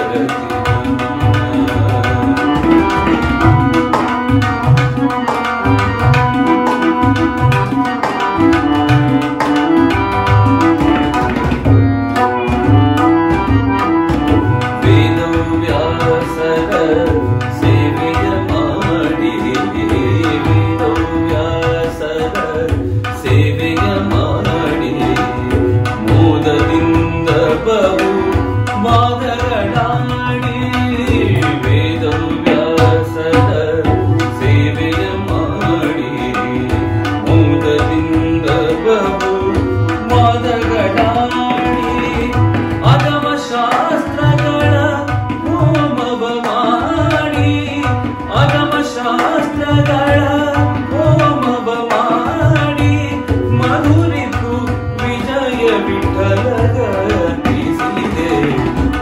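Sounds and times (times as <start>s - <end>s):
harmonium playing melody: 0.0s - 59.0s
tabla rhythm: 0.0s - 59.0s.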